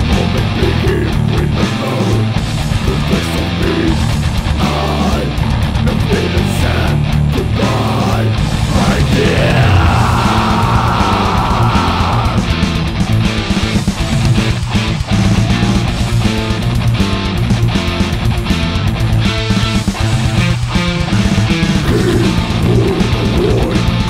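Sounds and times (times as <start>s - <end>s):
bass guitar: 0.0s - 24.0s
distorted electric guitars: 0.0s - 24.0s
drums: 0.0s - 24.0s.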